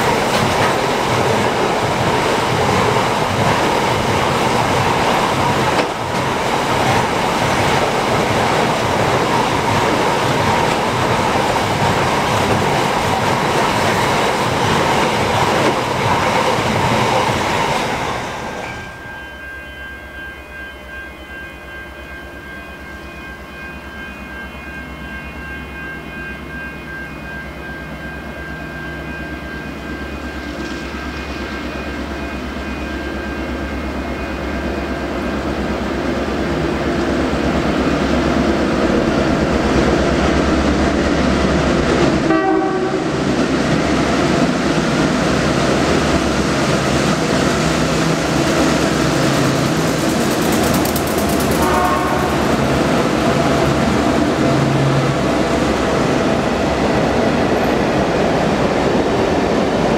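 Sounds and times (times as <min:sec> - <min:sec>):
diesel train passing: 0:00.0 - 0:59.9.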